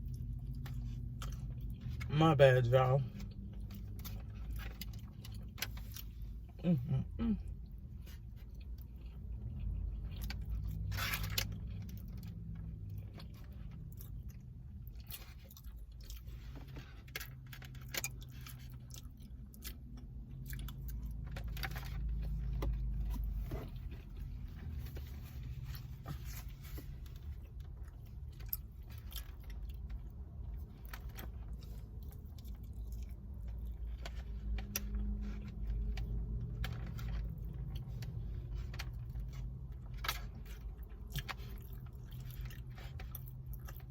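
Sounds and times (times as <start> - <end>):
person chewing food: 0.0 - 2.1, 3.1 - 43.9.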